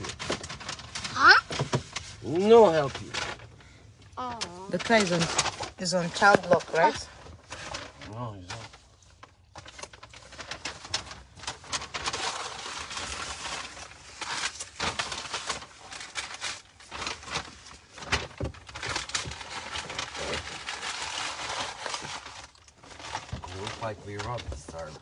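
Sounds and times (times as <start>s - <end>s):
paper crumpling and crinkling: 0.0s - 25.0s.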